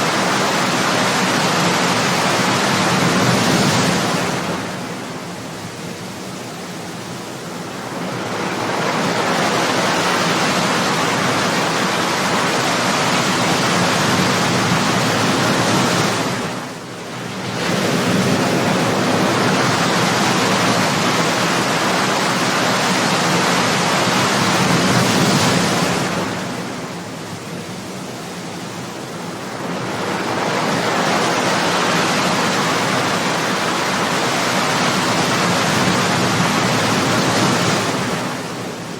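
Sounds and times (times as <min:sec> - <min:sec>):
ocean surf breaking: 0:00.0 - 0:06.0, 0:06.8 - 0:38.9.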